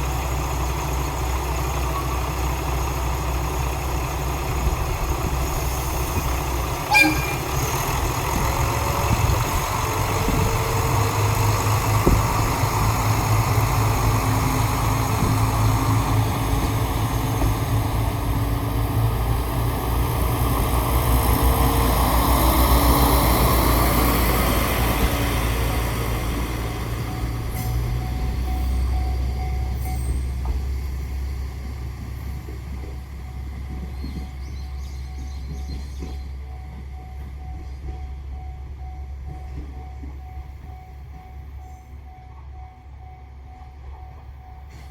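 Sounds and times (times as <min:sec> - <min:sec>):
diesel railcar engine rumbling: 0:00.0 - 0:44.9.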